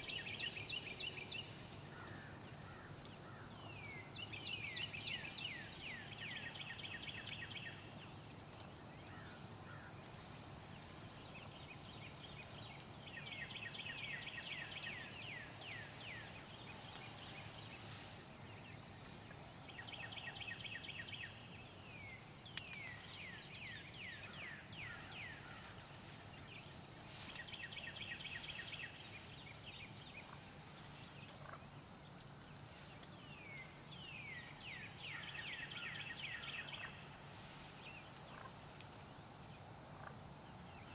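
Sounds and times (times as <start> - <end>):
songbird singing: 0.0 - 31.6, 32.9 - 37.1.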